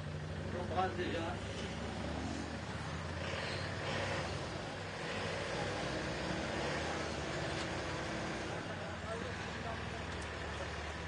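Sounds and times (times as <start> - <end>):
road train engine running: 0.0 - 11.0.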